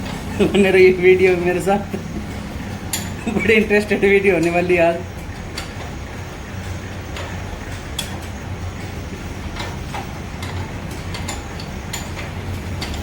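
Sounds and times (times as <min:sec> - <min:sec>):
hand tools clicking and tapping: 0:00.0 - 0:06.0, 0:07.1 - 0:13.0
steady low hum: 0:00.0 - 0:13.0.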